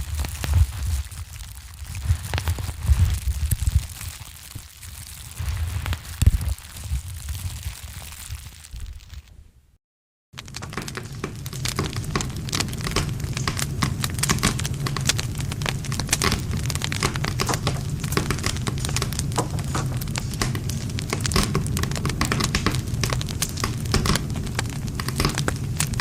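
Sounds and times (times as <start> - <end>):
burning logs crackling and popping: 0.0 - 9.3, 10.4 - 26.0
low rumble of flames: 0.0 - 9.7, 10.4 - 26.0.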